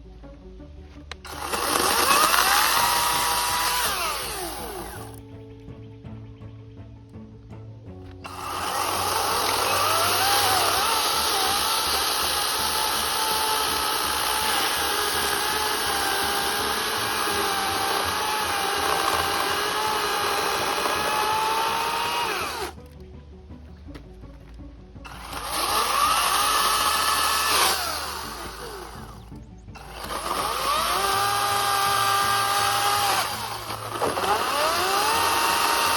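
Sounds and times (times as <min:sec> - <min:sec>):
electric chainsaw whining: 0:01.2 - 0:05.2, 0:08.2 - 0:22.8, 0:25.1 - 0:35.9.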